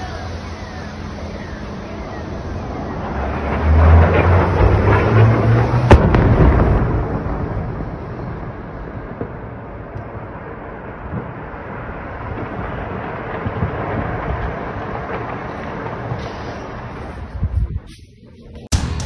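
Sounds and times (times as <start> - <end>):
distant explosion: 0.0 - 17.8
rolling rumble: 0.0 - 19.0.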